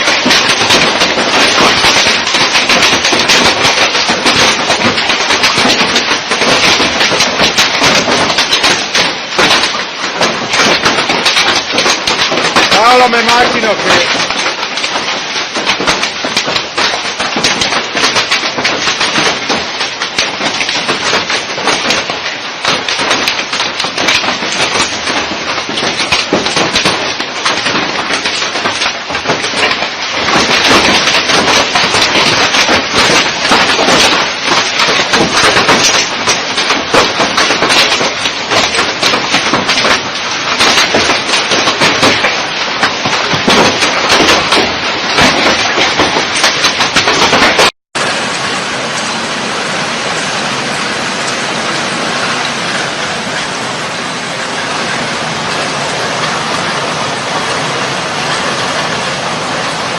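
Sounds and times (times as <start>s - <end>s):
hailstones pelting hard surfaces: 0.0s - 59.9s.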